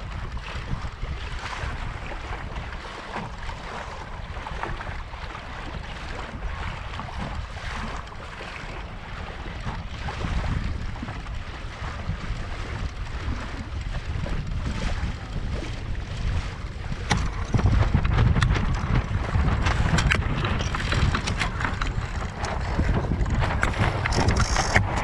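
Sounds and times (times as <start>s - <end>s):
water slapping against boat hull: 0.0s - 25.0s
wind buffeting microphone: 0.0s - 25.0s.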